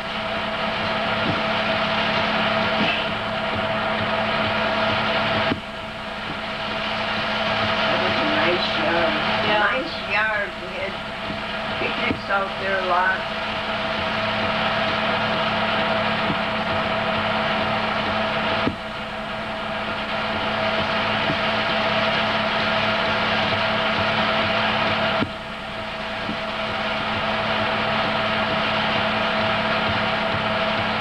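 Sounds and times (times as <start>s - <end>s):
film projector whirring: 0.0s - 31.0s.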